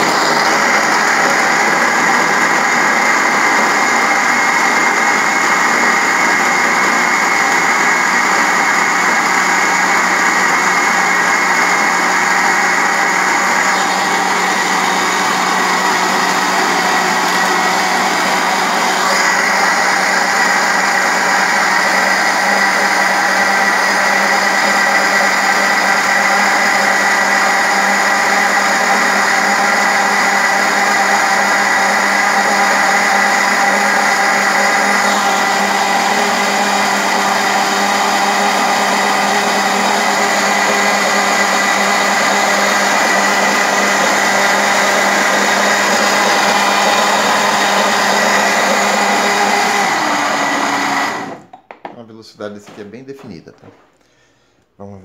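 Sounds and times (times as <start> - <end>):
blender running: 0.0 - 51.7.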